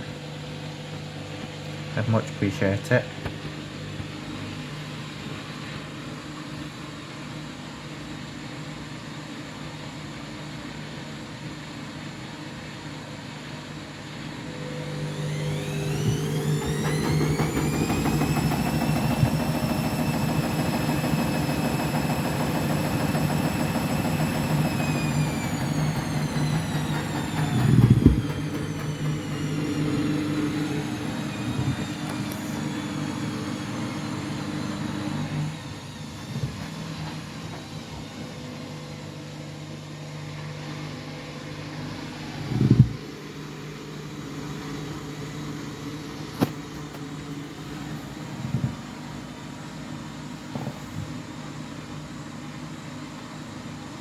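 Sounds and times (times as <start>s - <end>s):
washing machine spin whine: 0.0s - 54.0s.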